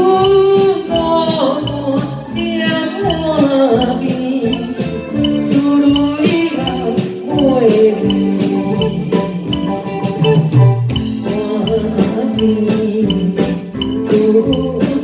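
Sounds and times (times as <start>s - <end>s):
instrumental guitar music: 0.0s - 15.0s
steady drum beat: 0.1s - 15.0s.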